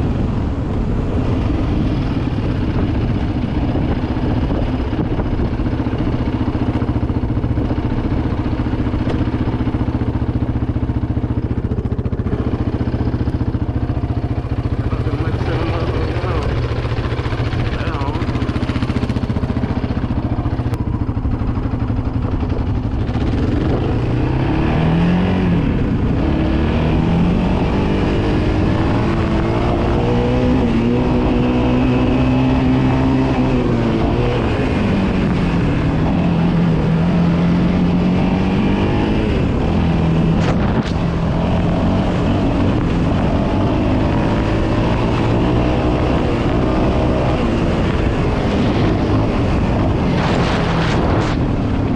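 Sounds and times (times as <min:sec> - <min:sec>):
quad bike engine revving: 0:00.0 - 0:51.9.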